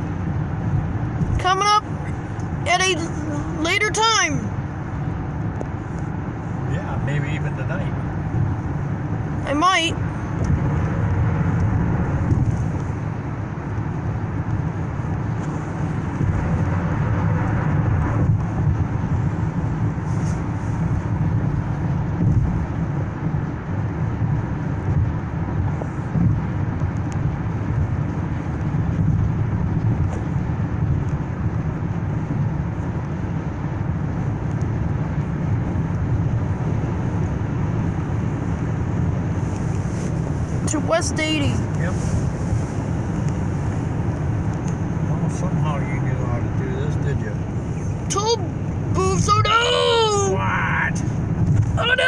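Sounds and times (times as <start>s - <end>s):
car cabin road and engine noise: 0.0s - 52.0s.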